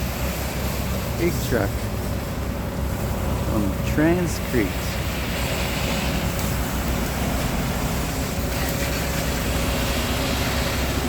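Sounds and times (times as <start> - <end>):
diesel truck engine running: 0.0 - 11.0
water rushing hiss: 0.0 - 11.0.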